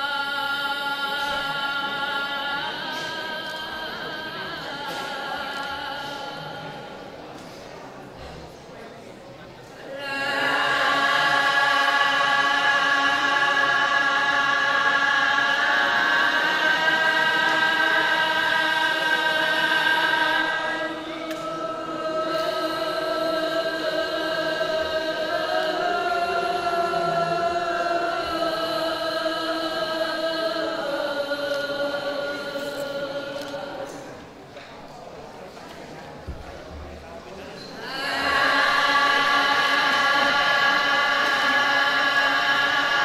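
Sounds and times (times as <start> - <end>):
devotional chanting: 0.0 - 43.0.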